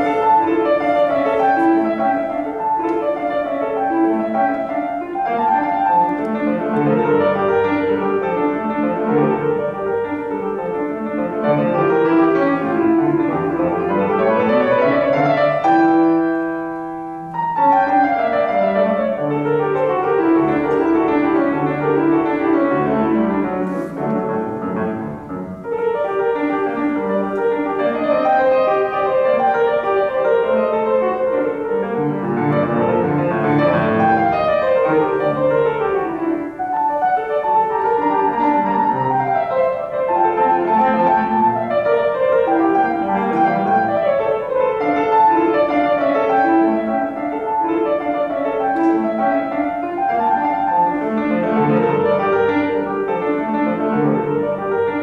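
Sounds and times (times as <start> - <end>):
piano playing fast runs: 0.0 - 55.0.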